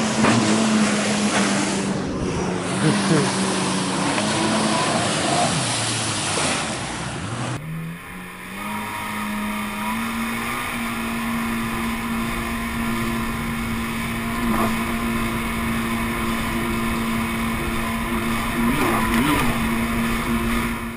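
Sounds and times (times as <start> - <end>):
personal watercraft engine: 0.0 - 20.9
water spray: 2.4 - 20.8.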